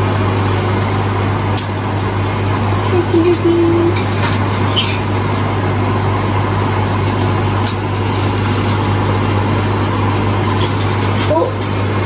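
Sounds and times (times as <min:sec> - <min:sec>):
air pump humming: 0:00.0 - 0:12.0.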